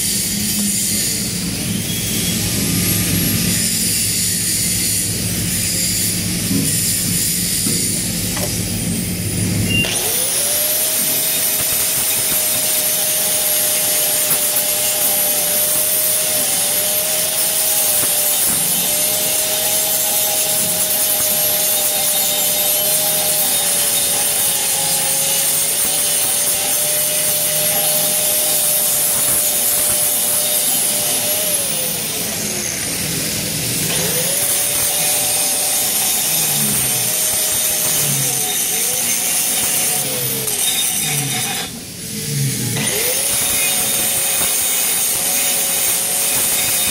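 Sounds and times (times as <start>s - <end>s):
angle grinder grinding steel: 0.0s - 46.9s.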